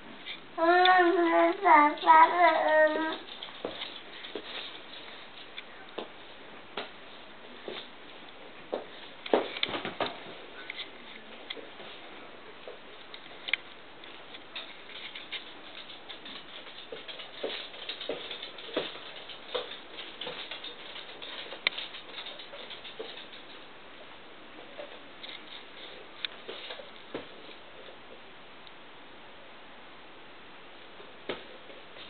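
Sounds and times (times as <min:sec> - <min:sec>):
small hands and feet tapping floor: 0:00.6 - 0:23.7, 0:24.6 - 0:28.2.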